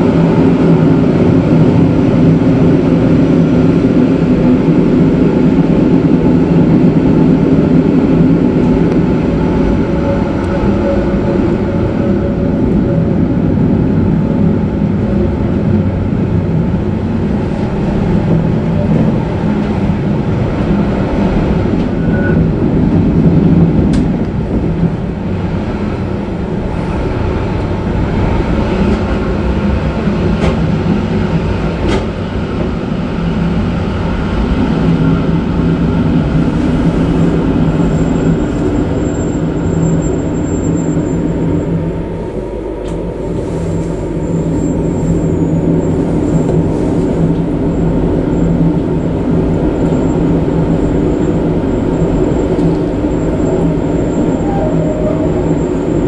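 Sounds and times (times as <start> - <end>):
electric train motor and wheel drone: 0.0 - 56.0.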